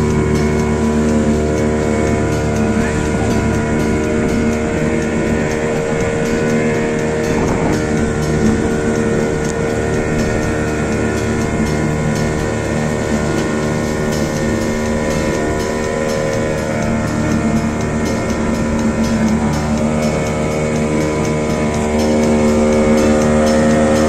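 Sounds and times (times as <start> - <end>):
motorboat engine droning: 0.0 - 24.0.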